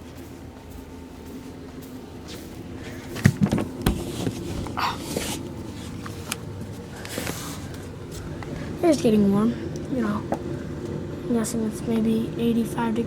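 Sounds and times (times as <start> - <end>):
furnace blower fan humming: 0.0 - 13.0.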